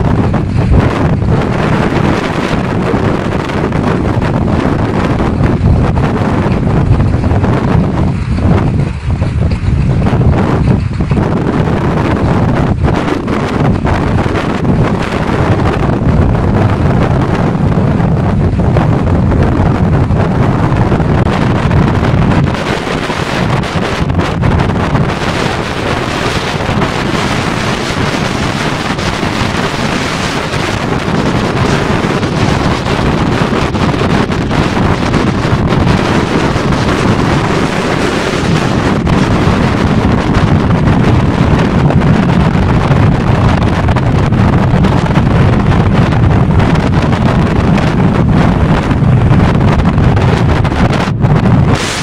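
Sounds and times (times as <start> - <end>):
gusty wind on microphone: 0.0 - 52.0.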